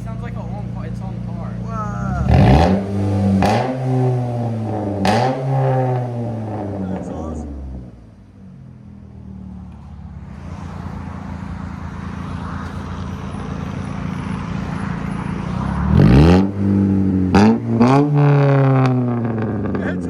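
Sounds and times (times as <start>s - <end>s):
loud car engine idling and revving: 0.0s - 20.0s.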